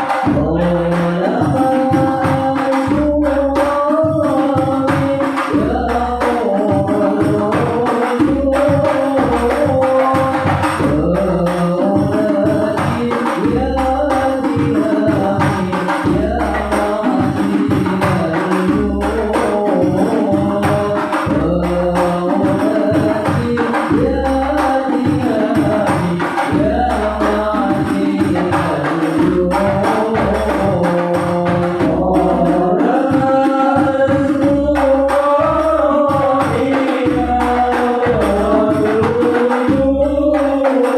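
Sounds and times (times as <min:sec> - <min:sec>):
frame drums beating: 0:00.0 - 0:40.9
group singing: 0:00.0 - 0:40.9.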